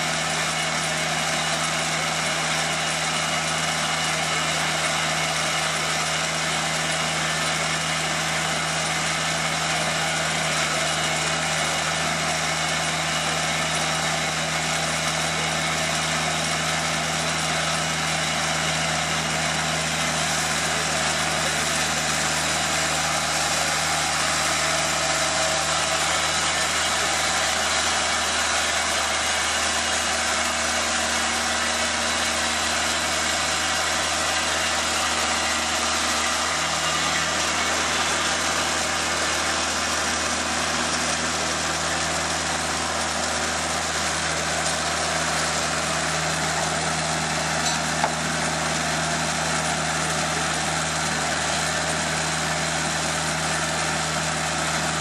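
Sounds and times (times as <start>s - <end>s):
sawmill engine: 0.0s - 55.0s.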